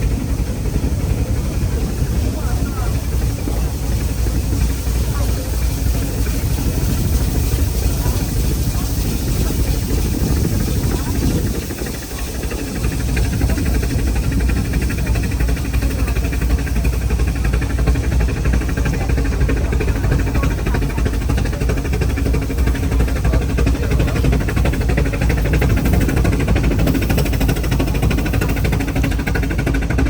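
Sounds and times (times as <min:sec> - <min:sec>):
passenger train rumbling: 0:00.0 - 0:30.0.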